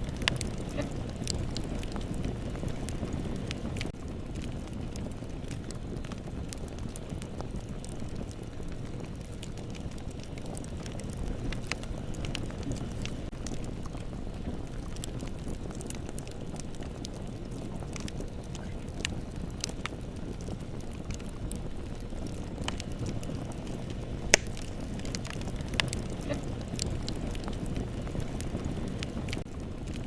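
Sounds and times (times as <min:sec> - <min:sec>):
fire pops and snaps: 0:00.0 - 0:30.0
low rumble of burning wood: 0:00.0 - 0:30.0.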